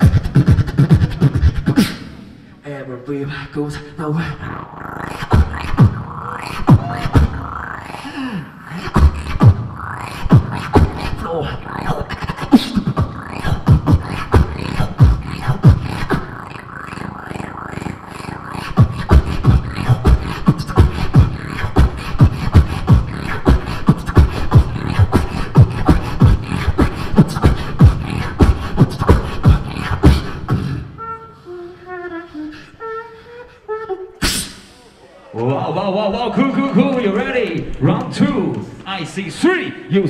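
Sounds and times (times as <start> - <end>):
person beatboxing into microphone: 0.0 - 40.0.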